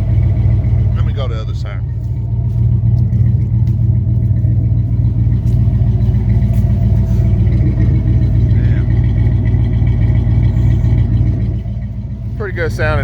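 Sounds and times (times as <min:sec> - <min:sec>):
engine idling exhaust rumble: 0:00.0 - 0:13.0.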